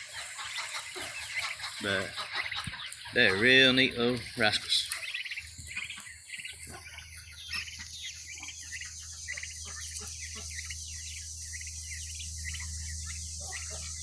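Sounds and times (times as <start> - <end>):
chicks peeping and chirping: 0.0 - 14.0
steady low hum: 0.0 - 14.0.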